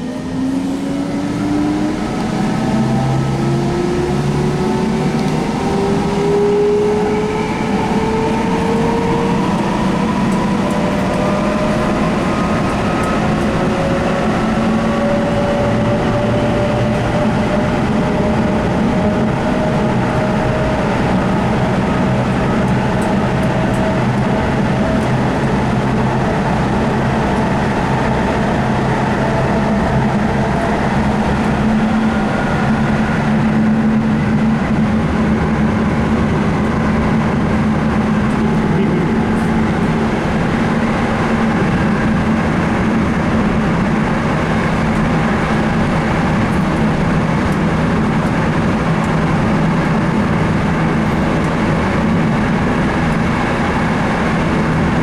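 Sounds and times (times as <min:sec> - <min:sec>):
train motor whine: 0:00.0 - 0:55.0
wheels rumbling on rail: 0:00.0 - 0:55.0.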